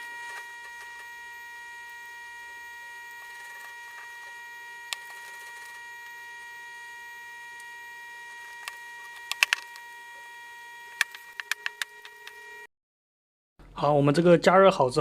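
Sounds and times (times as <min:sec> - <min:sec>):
hot air blower whining: 0:00.0 - 0:12.7.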